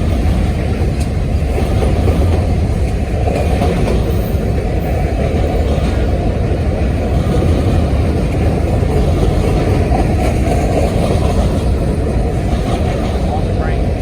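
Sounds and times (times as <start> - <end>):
freight train cars rolling past: 0.0 - 14.0.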